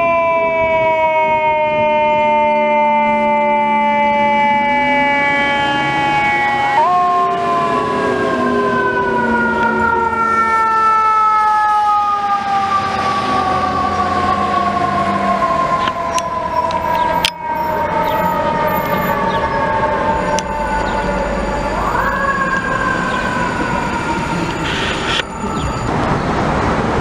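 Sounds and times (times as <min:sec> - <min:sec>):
mechanical siren winding down: 0:00.0 - 0:26.1.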